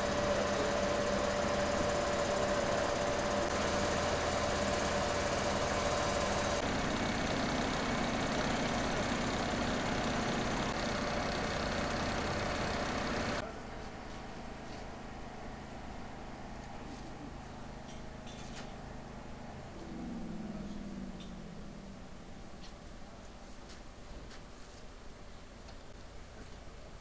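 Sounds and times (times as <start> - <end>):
fire engine engines idling: 0.0 - 27.0.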